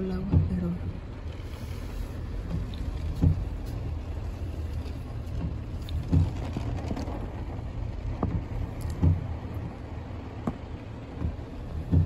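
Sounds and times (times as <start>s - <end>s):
rain on car roof: 0.0s - 12.0s.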